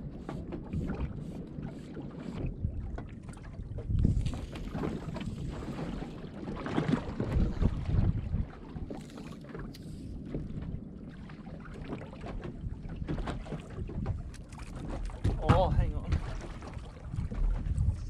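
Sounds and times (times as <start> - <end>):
water slopping against boat hull: 0.0 - 18.0
wind buffeting microphone: 0.0 - 18.0.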